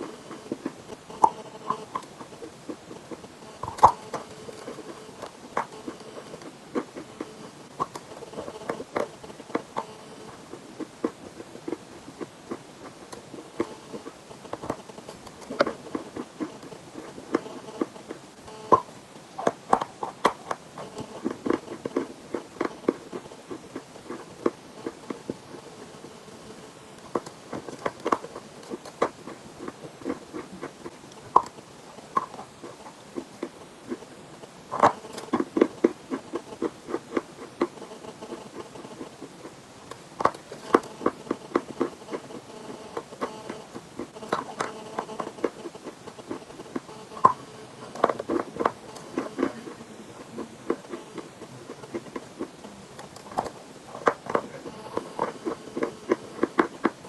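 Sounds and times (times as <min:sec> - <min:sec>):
chalk being chewed: 0:00.0 - 0:57.0.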